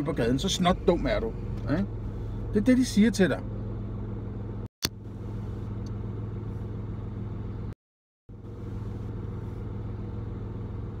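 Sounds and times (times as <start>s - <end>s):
car engine hum inside cabin: 0.0s - 11.0s.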